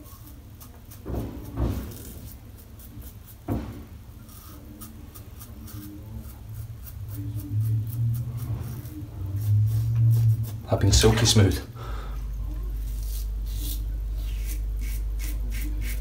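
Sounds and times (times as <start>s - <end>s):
razor scraping stubble: 0.0s - 11.4s, 12.7s - 16.0s.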